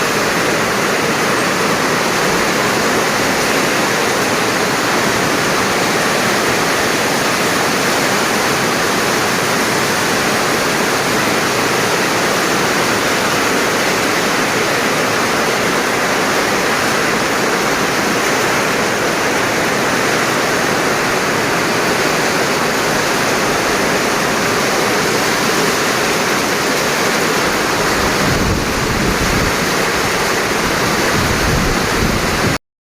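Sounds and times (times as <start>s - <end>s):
heavy rain falling: 0.0s - 32.6s.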